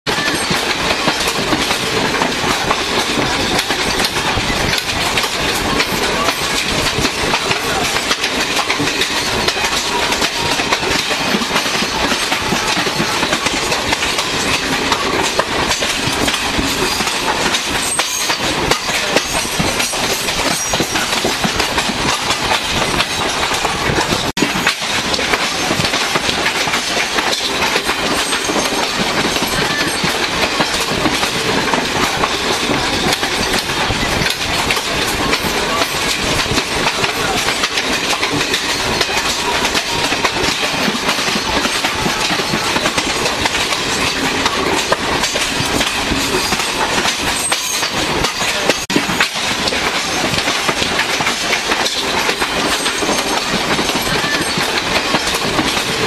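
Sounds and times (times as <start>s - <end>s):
passenger trains rumbling: 0.1s - 56.0s
train wheels clicking over rail joints: 0.1s - 56.0s.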